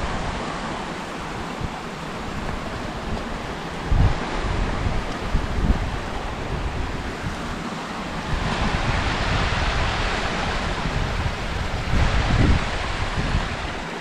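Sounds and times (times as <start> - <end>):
steady rushing hiss: 0.0 - 14.0
wind buffeting microphone: 0.0 - 14.0.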